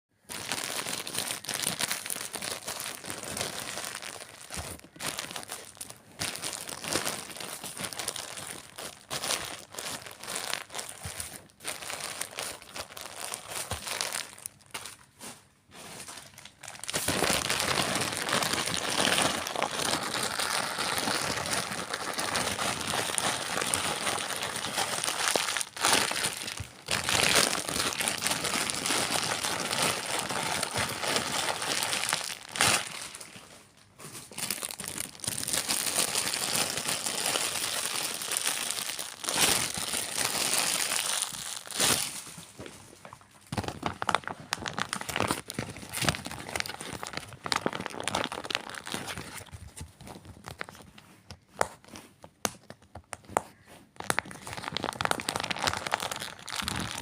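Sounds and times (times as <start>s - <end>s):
plastic bags crinkling: 0.2s - 51.7s, 53.2s - 57.0s.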